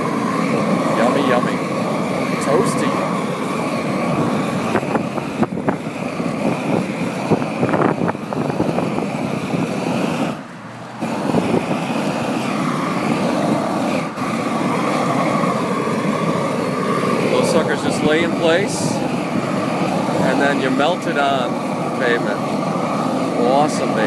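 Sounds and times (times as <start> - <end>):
propane torch roaring: 0.0 - 24.0.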